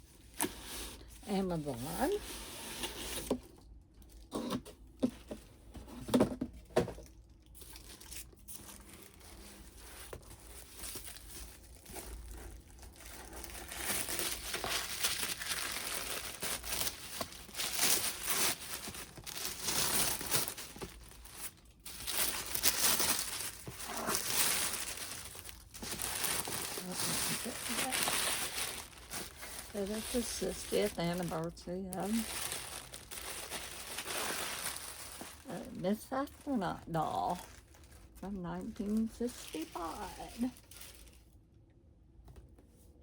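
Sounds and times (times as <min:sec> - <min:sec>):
packaging crinkling and rustling: 0:00.2 - 0:41.4.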